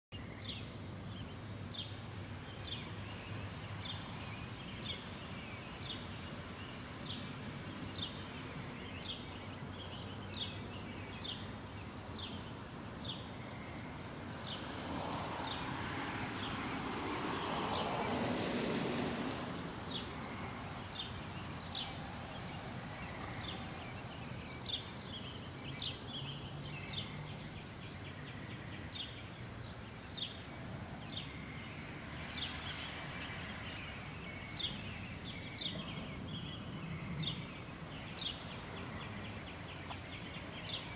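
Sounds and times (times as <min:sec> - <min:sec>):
birds chirping: 0:00.1 - 0:19.1, 0:19.7 - 0:40.9
outdoor background noise: 0:00.1 - 0:40.9.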